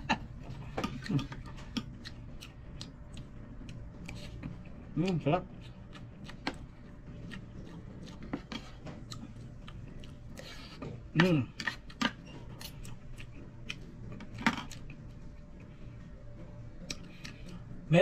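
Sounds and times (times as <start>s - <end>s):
chewing: 0.1s - 16.0s, 16.8s - 17.7s.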